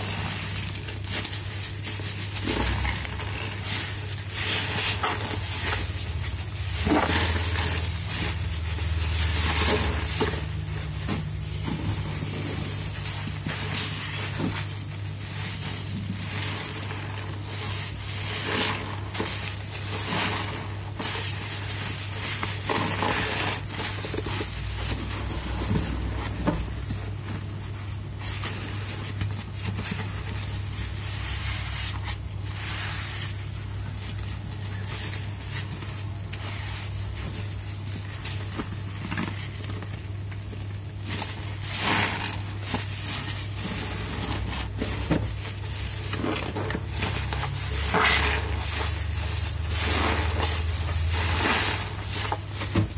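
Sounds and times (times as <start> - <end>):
sponge squelching with suds: 0.0 - 52.9
steady low hum: 0.0 - 52.9.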